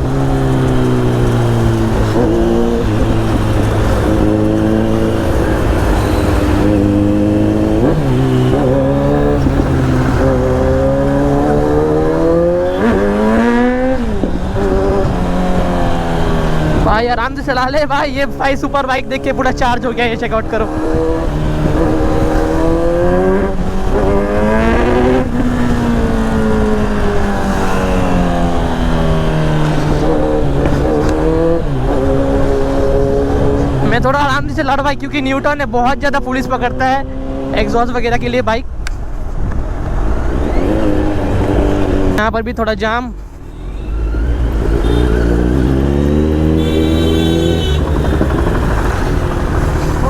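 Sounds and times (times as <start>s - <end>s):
motorcycle engine accelerating: 0.0s - 37.9s, 43.2s - 50.0s
low wind rumble: 0.0s - 42.2s, 47.4s - 50.0s.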